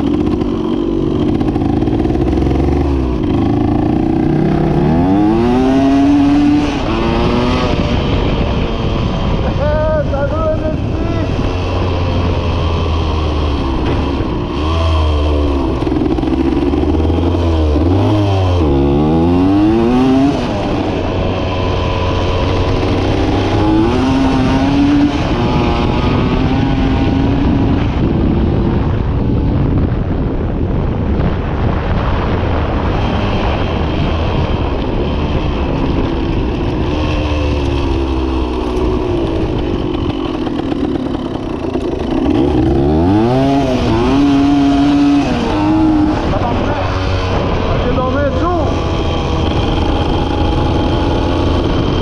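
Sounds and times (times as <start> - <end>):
motorcycle engine revving: 0.0 - 52.0
wind: 0.0 - 52.0.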